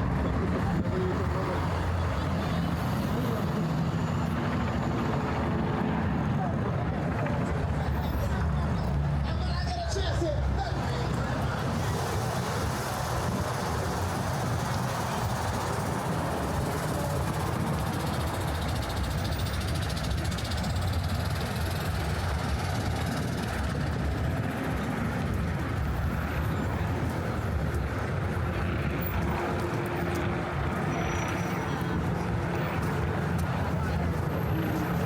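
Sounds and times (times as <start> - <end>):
street traffic rumble: 0.0 - 35.0.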